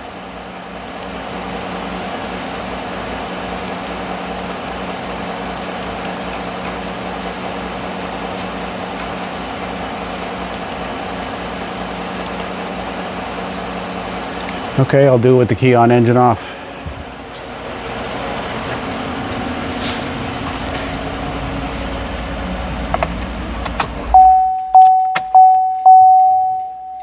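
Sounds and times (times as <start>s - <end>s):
truck engine idling: 1.4s - 24.5s.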